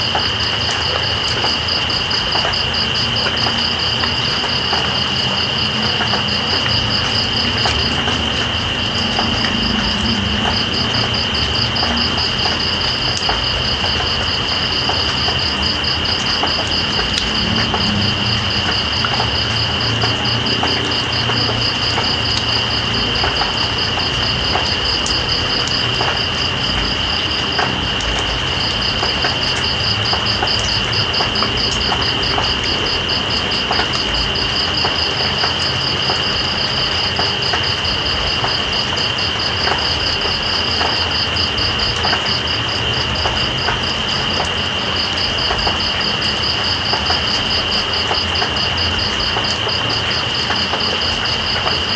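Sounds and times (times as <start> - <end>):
rain hiss: 0.0 - 51.9
water drips: 0.0 - 51.9.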